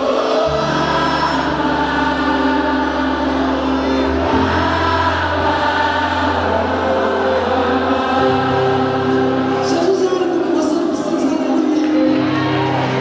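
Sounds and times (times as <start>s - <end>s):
band playing sustained chords: 0.0s - 13.0s
gospel choir singing: 0.0s - 13.0s.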